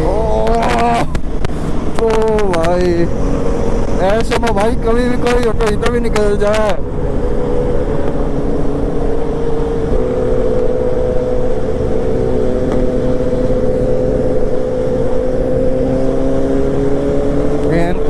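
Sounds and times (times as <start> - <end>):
low wind: 0.0 - 18.0
motorcycle engine running: 0.0 - 18.0
road rumble: 0.0 - 18.0.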